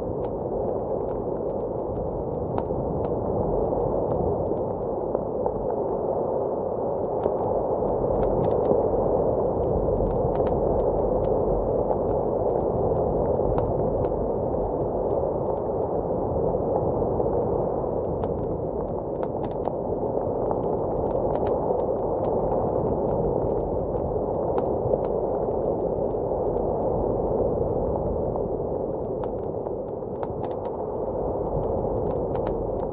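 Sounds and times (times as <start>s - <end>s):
muffled blizzard wind: 0.0s - 32.9s.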